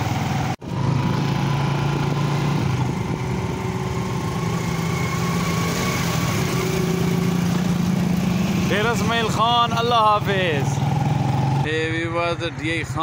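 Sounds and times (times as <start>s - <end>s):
small motorcycle engine running: 0.0s - 11.7s
wind and road noise: 0.0s - 13.0s.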